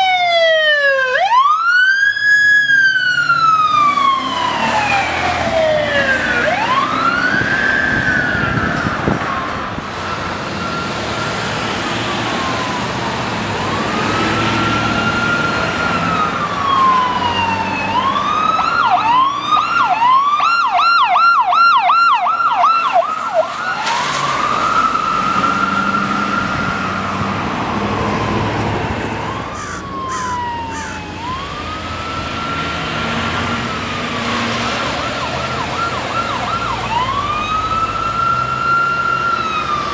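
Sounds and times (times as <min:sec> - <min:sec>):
electronic siren wailing and yelping: 0:00.0 - 0:39.9
vehicle engine and road noise: 0:00.0 - 0:39.9.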